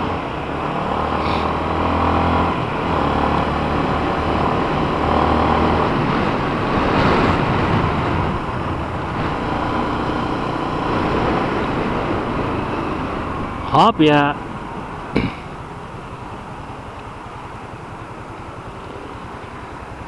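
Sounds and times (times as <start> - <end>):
wind rushing over microphone: 0.0 - 16.2
motorcycle engine cruising: 0.0 - 20.0.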